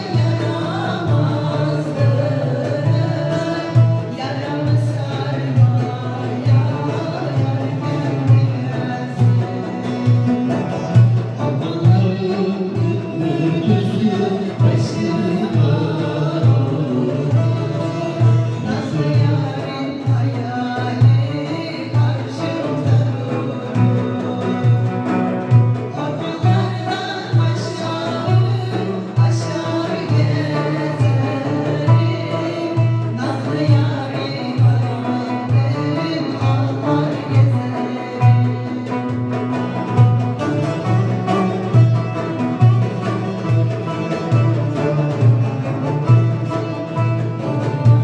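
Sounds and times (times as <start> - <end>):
woman singing: 0.0 - 42.2
acoustic guitar: 0.0 - 48.0
frame drum and hand drum beat: 0.0 - 48.0
plucked lute: 0.0 - 48.0.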